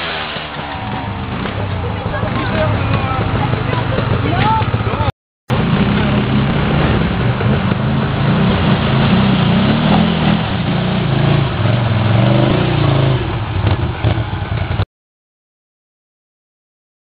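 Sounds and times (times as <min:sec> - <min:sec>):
quad bike engine revving: 0:00.0 - 0:14.8.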